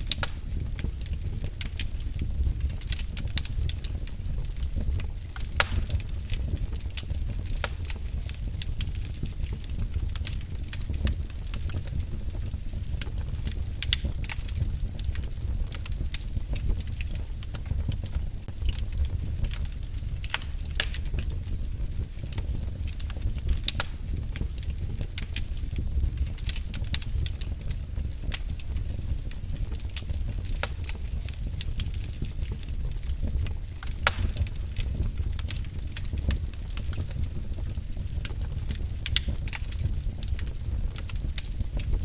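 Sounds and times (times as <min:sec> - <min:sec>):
fire rumbling: 0:00.0 - 0:42.0
logs crackling and popping: 0:00.0 - 0:42.0.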